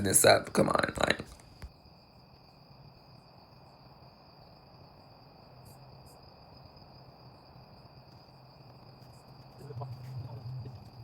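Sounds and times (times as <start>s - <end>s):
crickets trilling: 0.0s - 11.0s
faint low hum: 0.0s - 11.0s.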